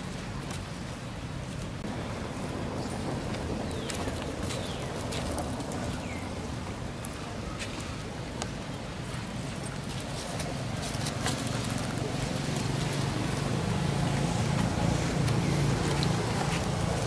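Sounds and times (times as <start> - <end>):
faint clicks and rustles: 2.8 - 17.0.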